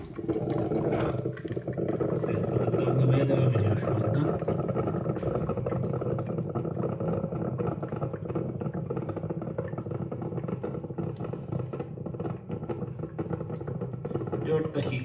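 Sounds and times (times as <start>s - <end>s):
coffee maker gurgling and sputtering: 0.0s - 15.0s.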